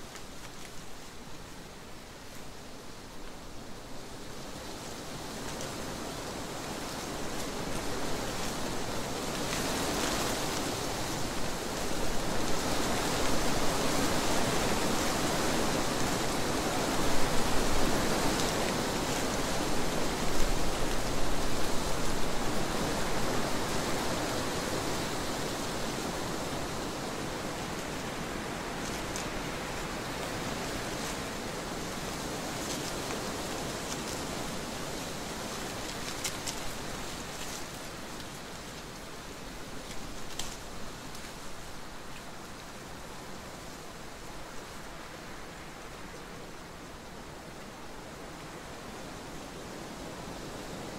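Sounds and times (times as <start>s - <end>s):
wind blowing through trees: 0.0s - 50.9s.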